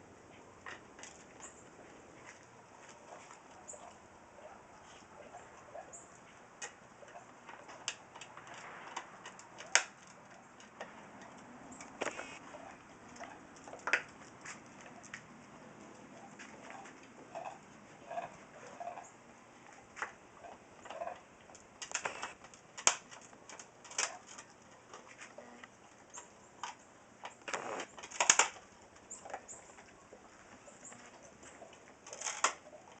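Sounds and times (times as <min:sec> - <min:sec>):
pet gnawing on a chew bone: 0:04.7 - 0:33.0.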